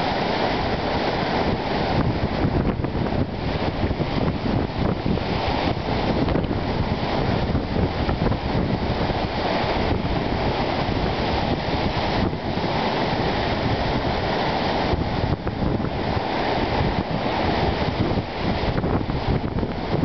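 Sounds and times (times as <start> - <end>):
waves washing over rocky shore: 0.0 - 20.0
wind rumbling on microphone: 0.0 - 20.0.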